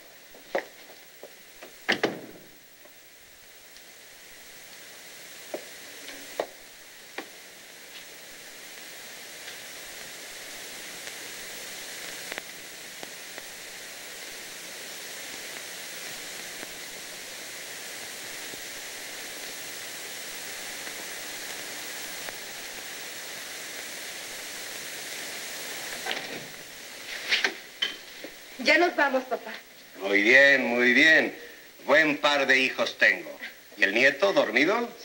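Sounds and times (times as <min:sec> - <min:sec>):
old film soundtrack hiss: 0:00.0 - 0:35.0.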